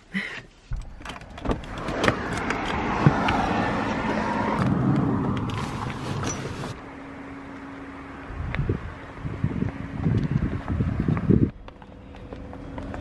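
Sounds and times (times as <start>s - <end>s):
vehicle passing: 1.2s - 13.0s.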